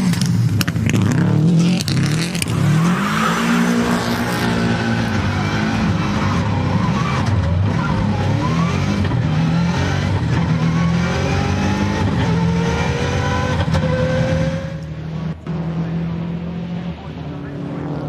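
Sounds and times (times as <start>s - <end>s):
racing car engine accelerating: 0.0s - 18.0s.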